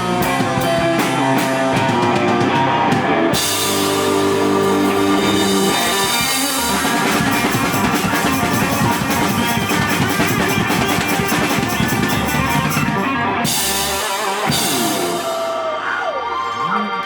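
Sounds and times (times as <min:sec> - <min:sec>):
electric guitar chord: 0:00.0 - 0:15.7
drum kit steady beat: 0:00.0 - 0:15.8.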